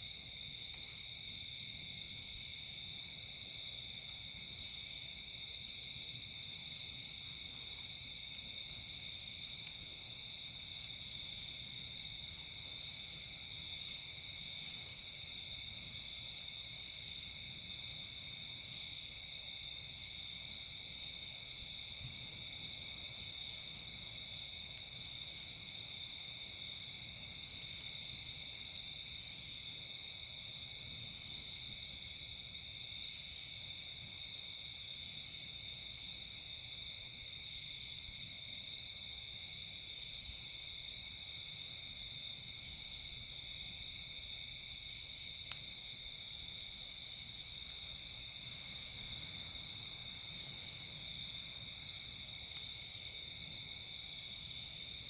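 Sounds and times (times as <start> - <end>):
night insects chorus: 0.0 - 55.0.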